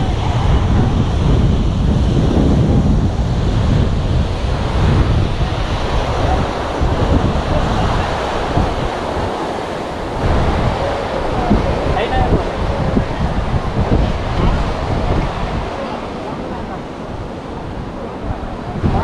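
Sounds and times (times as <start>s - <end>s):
sea waves breaking on shore: 0.0s - 19.0s
wind buffeting microphone: 0.0s - 19.0s.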